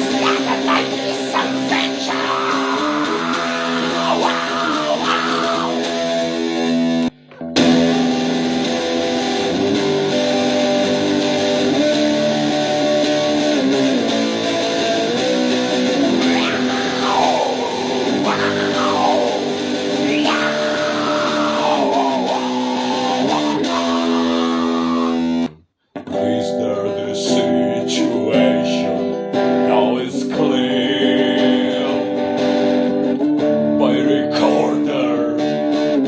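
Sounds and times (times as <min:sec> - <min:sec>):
rock guitar sustained chords: 0:00.0 - 0:29.7.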